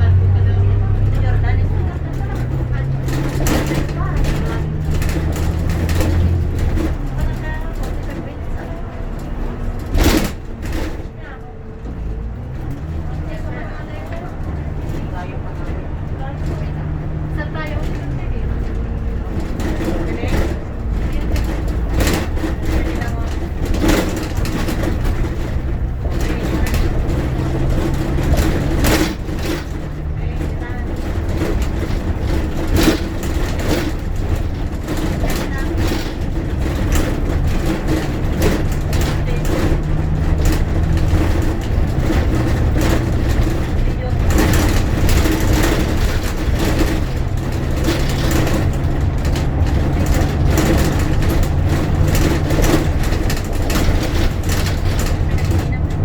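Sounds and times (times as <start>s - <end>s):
bus engine and tyre drone: 0.0s - 56.0s
cabin rattles: 0.1s - 56.0s.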